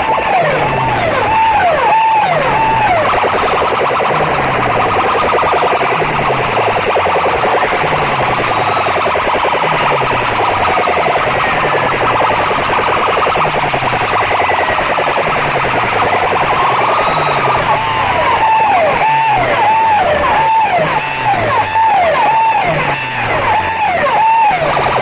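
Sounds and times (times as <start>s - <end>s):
falling bass note: 0.0s - 24.6s
distorted electronic siren tones: 0.0s - 25.0s.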